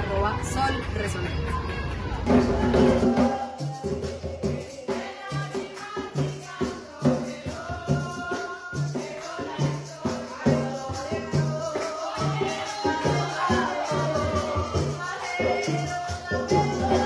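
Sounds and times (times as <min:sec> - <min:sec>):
hand drums beating: 0:02.3 - 0:17.0
shaker: 0:02.3 - 0:17.0.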